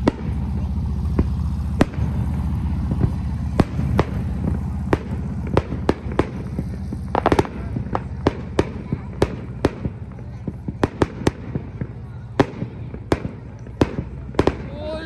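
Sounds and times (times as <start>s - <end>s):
steady low hum: 0.0s - 14.7s
firework pops: 0.0s - 14.8s
fireworks bangs: 0.0s - 15.0s.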